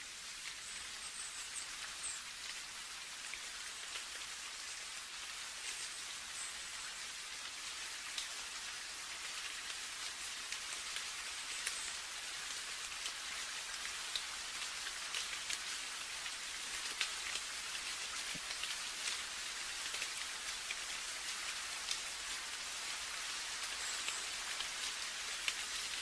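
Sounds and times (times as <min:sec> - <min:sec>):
raindrops pattering: 0:00.0 - 0:26.0
steady rain: 0:00.0 - 0:26.0.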